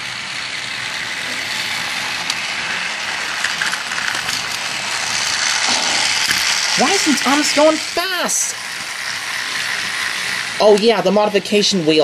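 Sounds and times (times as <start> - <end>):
toy train motors whirring: 0.0 - 12.0.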